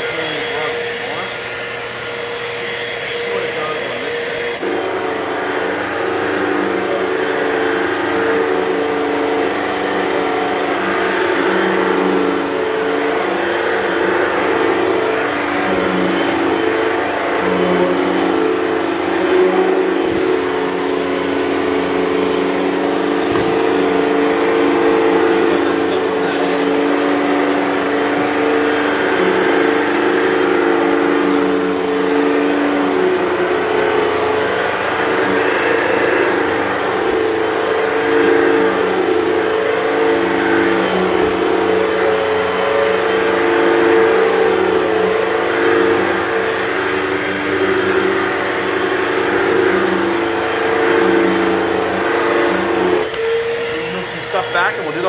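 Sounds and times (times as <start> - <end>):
upright vacuum running: 0.0 - 55.0.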